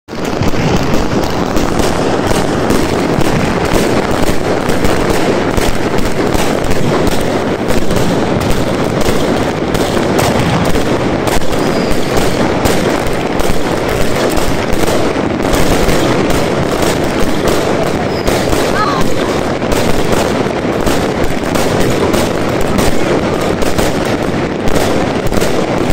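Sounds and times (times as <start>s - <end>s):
fireworks crackle: 0.0s - 25.9s
fireworks bangs: 0.1s - 25.9s.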